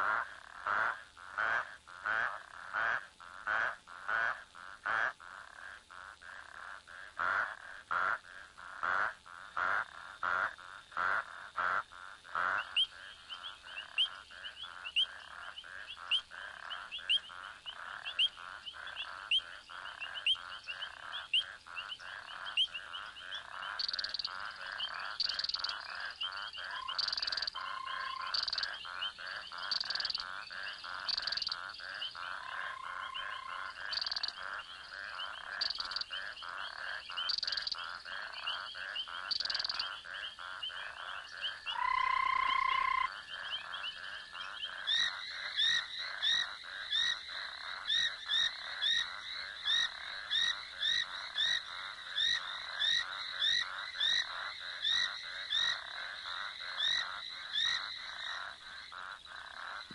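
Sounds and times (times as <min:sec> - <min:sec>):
frogs clicking and chirping: 0:00.0 - 0:59.9
loud frog call: 0:00.0 - 0:59.9.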